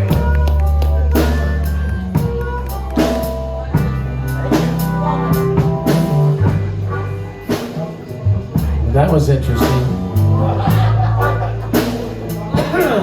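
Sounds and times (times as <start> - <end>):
bass guitar line: 0.0 - 13.0
drum kit: 0.0 - 13.0
lead instrument melody: 0.0 - 13.0.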